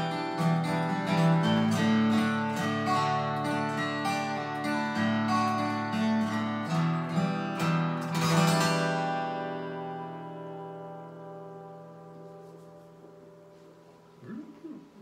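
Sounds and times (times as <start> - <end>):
acoustic guitars strumming chords: 0.0 - 15.0.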